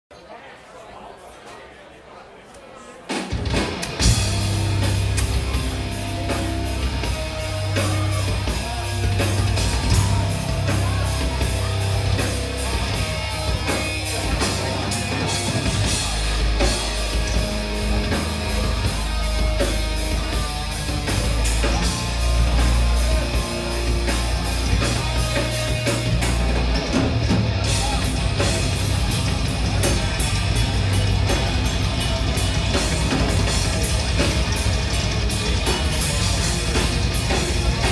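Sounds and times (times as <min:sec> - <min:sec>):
rapid drumming: 0:03.1 - 0:37.9
distorted electric guitars: 0:03.3 - 0:37.9
bass guitar: 0:03.4 - 0:37.9.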